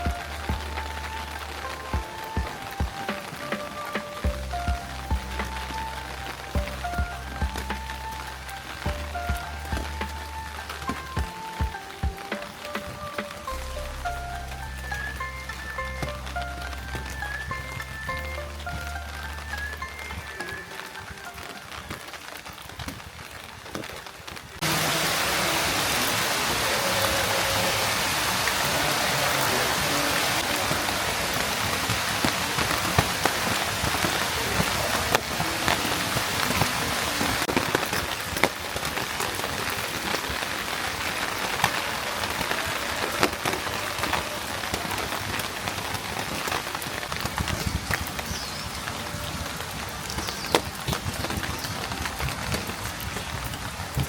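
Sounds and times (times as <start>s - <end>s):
sharp hits of raindrops: 0.0s - 54.0s
steady rain falling: 0.0s - 54.0s.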